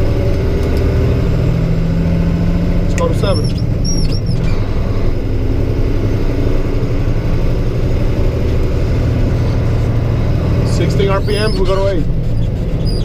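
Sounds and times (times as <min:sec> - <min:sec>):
truck diesel engine under load: 0:00.0 - 0:13.0.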